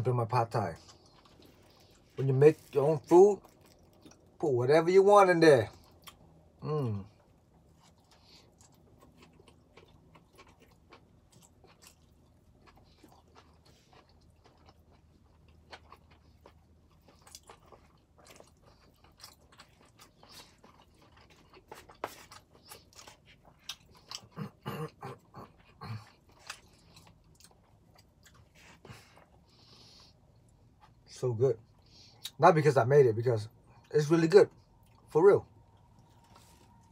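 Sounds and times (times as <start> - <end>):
person chewing noodles: 0.4 - 4.4, 5.7 - 32.4, 34.5 - 36.9.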